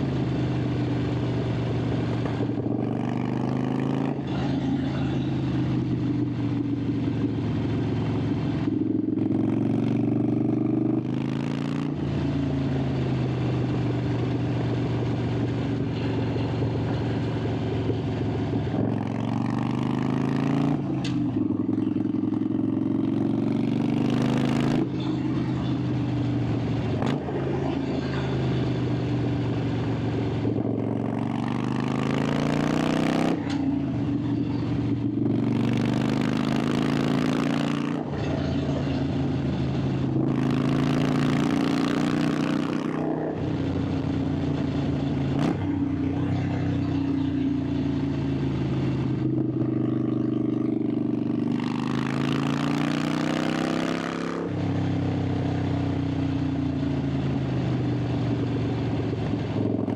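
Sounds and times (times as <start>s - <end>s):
motorcycle exhaust revving: 0.0s - 59.9s.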